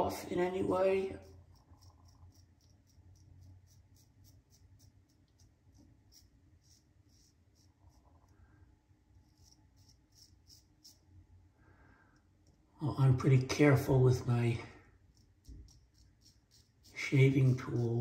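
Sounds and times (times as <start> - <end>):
razor scraping stubble: 0.2 - 8.3, 9.2 - 11.2, 13.2 - 18.0.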